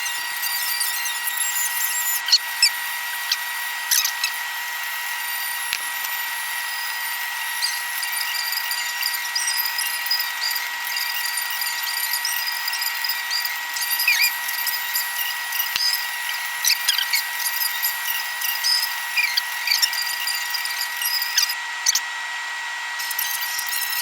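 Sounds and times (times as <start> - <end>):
squeaks and clicks: 0.0 - 22.0, 23.0 - 24.0
high-pitched electronic whine: 0.0 - 22.2, 23.0 - 24.0.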